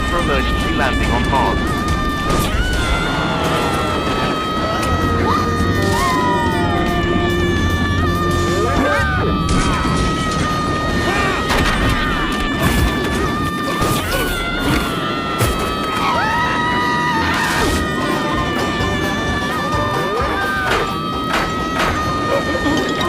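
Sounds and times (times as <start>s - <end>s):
dramatic soundtrack music: 0.0s - 23.0s.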